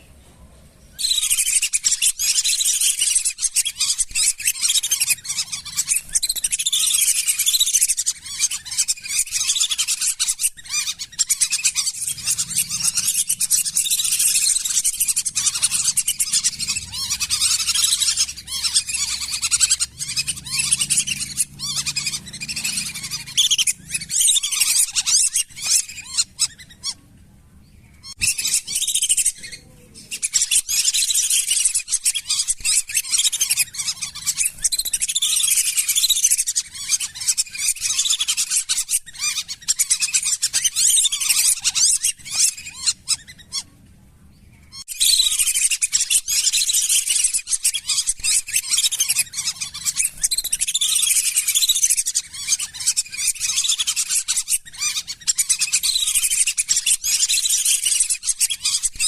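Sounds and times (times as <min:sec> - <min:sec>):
whistling ducks calling: 0:00.8 - 0:27.0, 0:27.9 - 0:43.7, 0:44.7 - 0:59.0.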